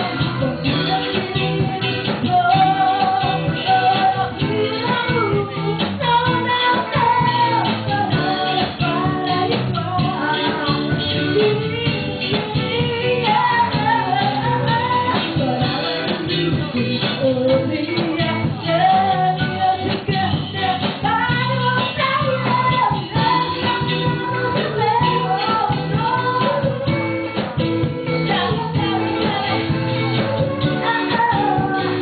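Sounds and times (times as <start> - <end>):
band playing a song: 0.0 - 32.0
person singing: 0.0 - 32.0.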